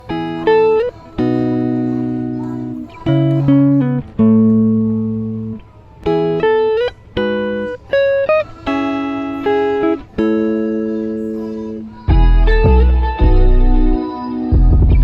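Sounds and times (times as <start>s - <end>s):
plucked guitar playing slowly: 0.0s - 15.0s.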